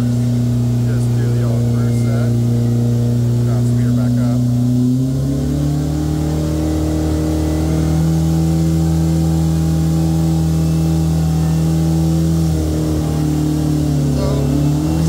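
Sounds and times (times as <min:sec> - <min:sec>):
engine running at part throttle: 0:00.0 - 0:15.0.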